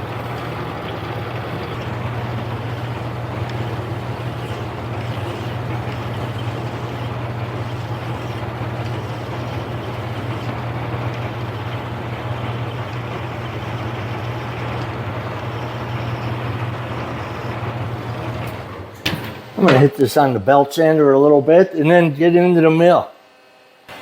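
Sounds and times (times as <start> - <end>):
lathe motor humming: 0.0 - 21.0.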